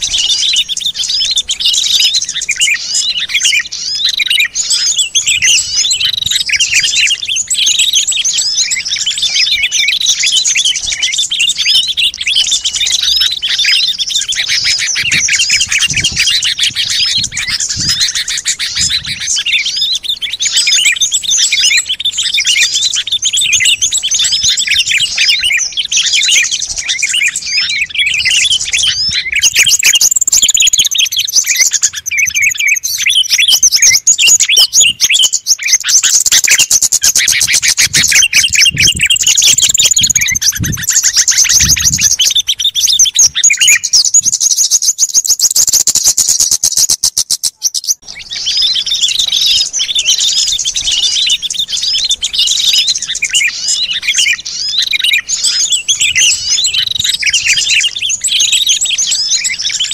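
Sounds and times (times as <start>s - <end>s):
high-pitched bird trill: 0.0s - 59.9s
songbirds chirping: 0.0s - 59.9s.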